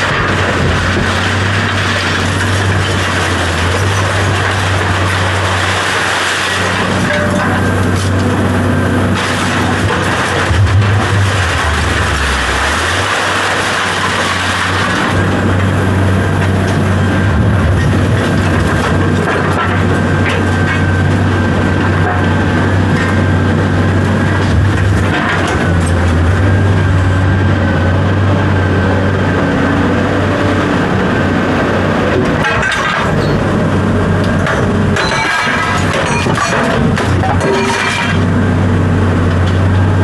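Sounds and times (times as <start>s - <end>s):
large engine droning: 0.0s - 40.0s.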